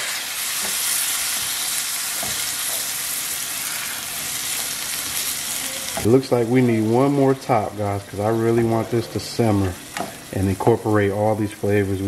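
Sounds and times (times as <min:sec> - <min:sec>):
meat and onions sizzling: 0:00.0 - 0:12.0.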